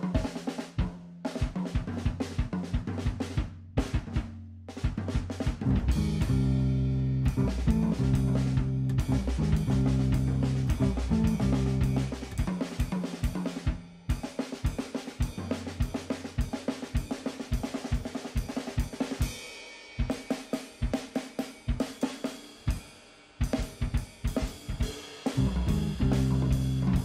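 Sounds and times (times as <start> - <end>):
jazz drum solo: 0.0 - 27.0.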